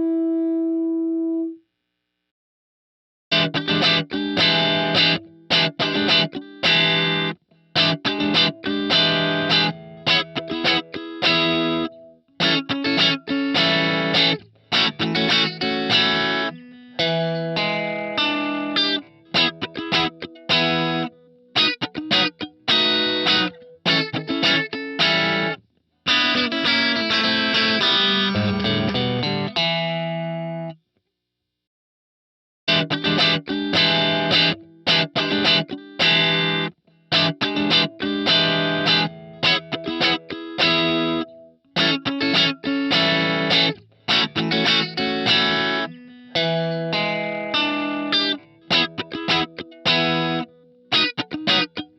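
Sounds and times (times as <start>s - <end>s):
overdriven electric guitar chords: 3.3s - 30.8s, 32.7s - 51.9s.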